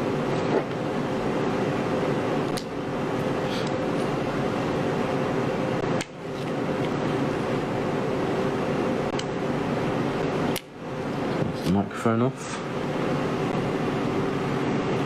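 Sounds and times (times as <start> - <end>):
droning background hum: 0.0 - 15.0.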